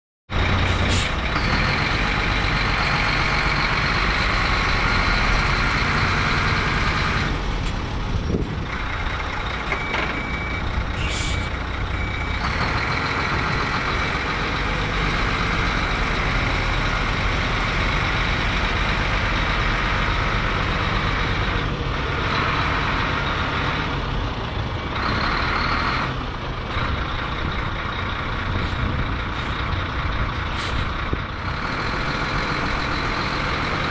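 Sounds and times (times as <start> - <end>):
truck diesel engine running: 0.3 - 33.9.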